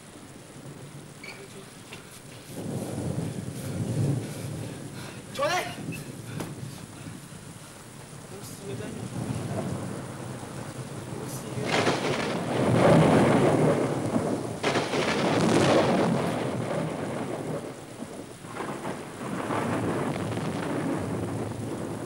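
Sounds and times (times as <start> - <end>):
heavy rain: 0.0 - 22.0
rumbling thunder: 0.0 - 22.0.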